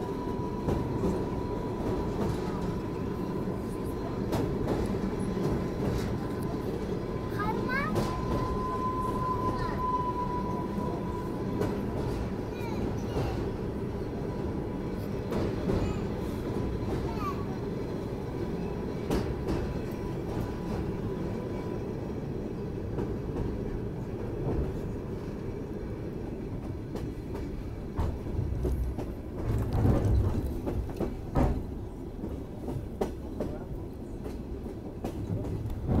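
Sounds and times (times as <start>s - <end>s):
wheels rumbling on rails: 0.0s - 36.0s.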